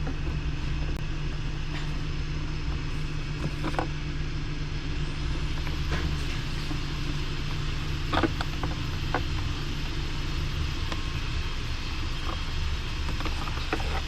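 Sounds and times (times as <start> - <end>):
low vehicle drone: 0.0 - 14.0.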